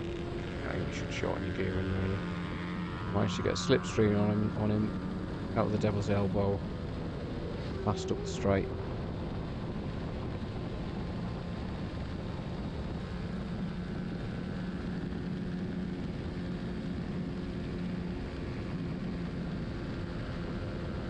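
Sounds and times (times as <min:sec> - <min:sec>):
racing motorcycle engine: 0:00.0 - 0:21.0
wind and road noise: 0:00.0 - 0:21.0.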